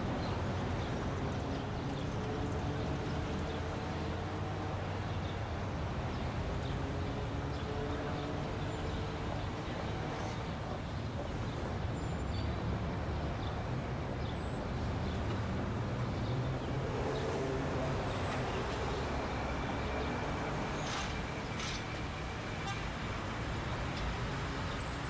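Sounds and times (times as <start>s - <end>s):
road vehicle rumble: 0.0s - 25.0s.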